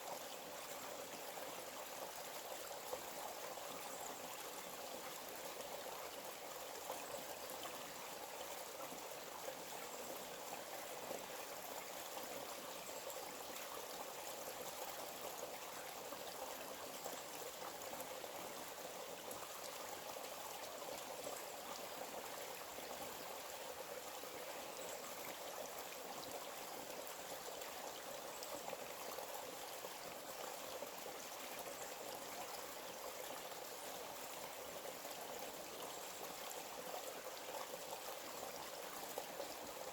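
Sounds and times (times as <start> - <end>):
small stream flowing: 0.0 - 39.9.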